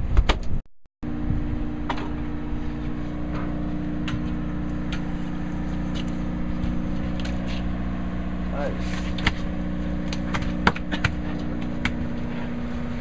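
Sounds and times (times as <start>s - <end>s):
boat engine humming: 1.1s - 13.0s.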